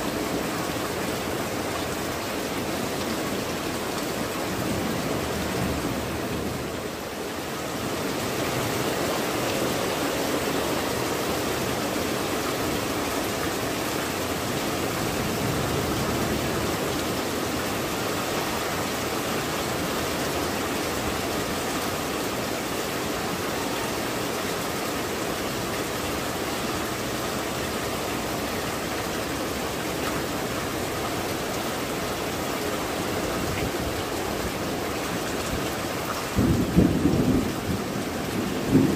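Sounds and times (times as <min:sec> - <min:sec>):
rain on tile roofs and foliage: 0:00.0 - 0:38.9.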